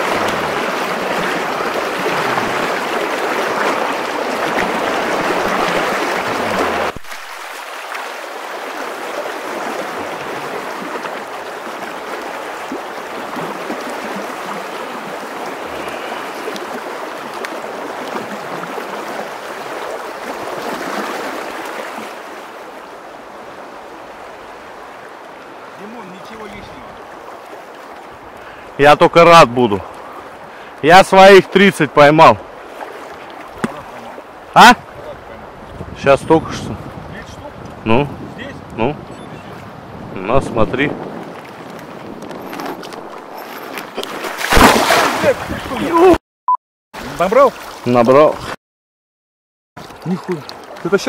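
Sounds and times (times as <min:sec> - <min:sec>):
river rushing and splashing: 0:00.0 - 0:46.2, 0:47.0 - 0:48.6, 0:49.8 - 0:51.0.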